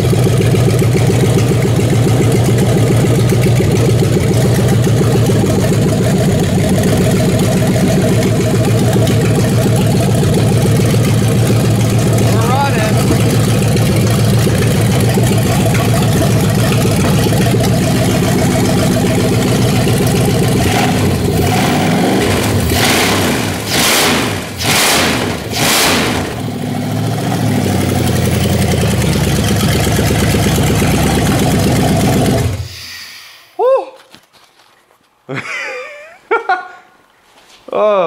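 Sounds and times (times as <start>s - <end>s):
car engine idling: 0.0s - 32.9s
engine revving in sharp blips: 0.0s - 32.9s.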